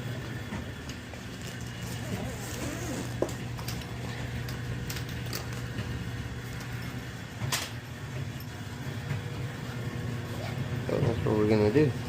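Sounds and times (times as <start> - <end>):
electric dryer running: 0.0 - 12.0.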